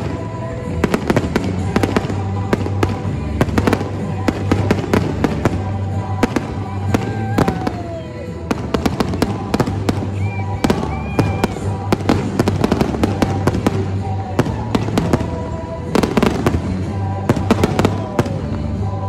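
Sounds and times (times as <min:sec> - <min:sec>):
background music: 0:00.0 - 0:19.0
fireworks bangs and crackles: 0:00.0 - 0:19.0.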